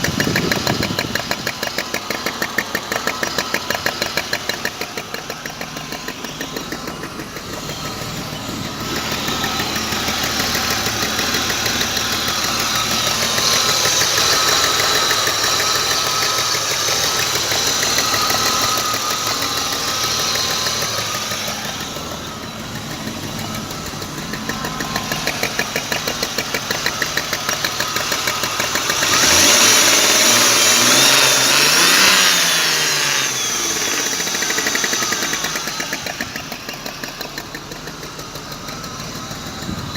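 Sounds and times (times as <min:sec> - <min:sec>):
car engine running with knock: 0:00.0 - 0:39.9.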